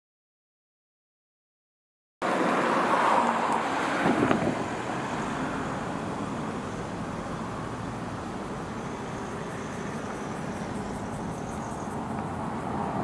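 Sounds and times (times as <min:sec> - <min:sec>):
car passing: 0:02.2 - 0:13.0
steady traffic hiss: 0:02.3 - 0:13.0.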